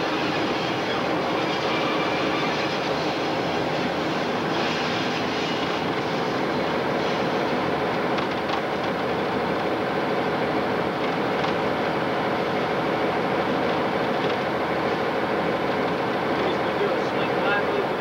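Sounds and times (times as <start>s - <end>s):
diesel locomotive running: 0.0s - 18.0s.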